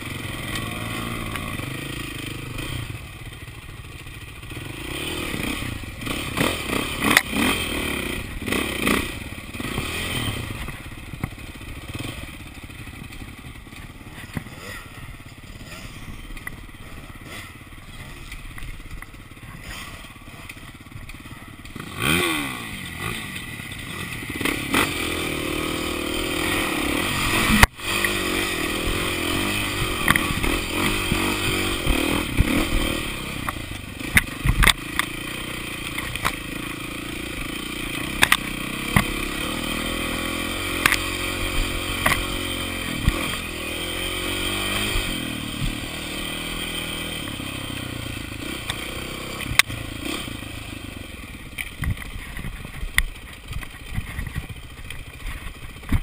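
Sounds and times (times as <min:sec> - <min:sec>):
dirt bike engine revving: 0:00.0 - 0:56.0
knocks and clatter over rough trail: 0:00.0 - 0:56.0.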